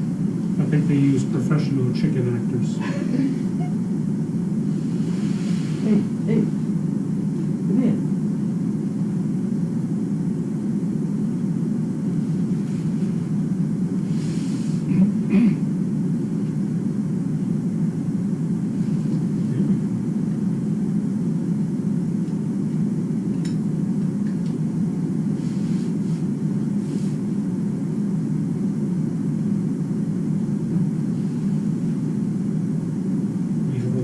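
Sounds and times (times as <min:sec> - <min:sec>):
low rumbling noise: 0:00.0 - 0:34.0.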